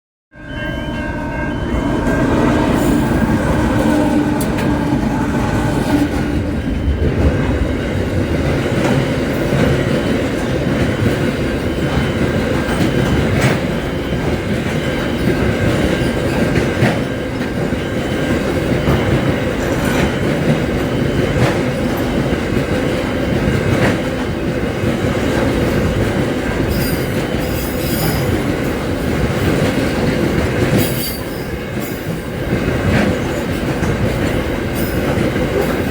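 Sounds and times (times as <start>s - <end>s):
pitched locomotive sound: 0.3s - 35.9s
freight train rumbling past: 0.4s - 35.9s.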